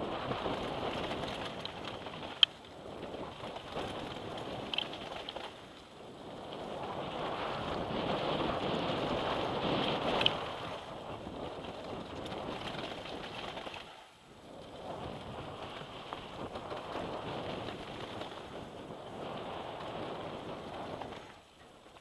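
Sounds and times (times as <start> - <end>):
bike tyres rattling over gravel: 0.0 - 22.0
wind rushing over microphone: 0.0 - 22.0.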